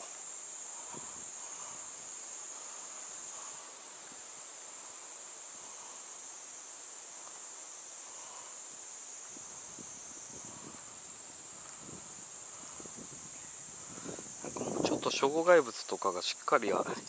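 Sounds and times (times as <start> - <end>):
faint hiss: 0.0 - 17.0
high-pitched insect chorus: 0.0 - 17.0.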